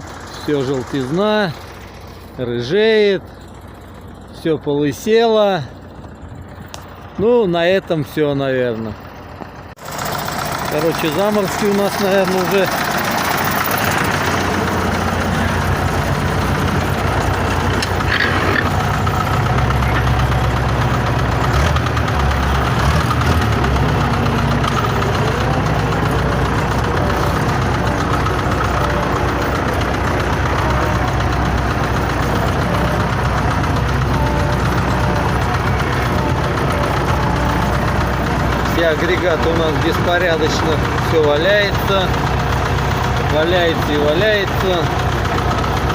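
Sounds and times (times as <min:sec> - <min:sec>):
truck engine idling with knock: 0:00.0 - 0:45.9.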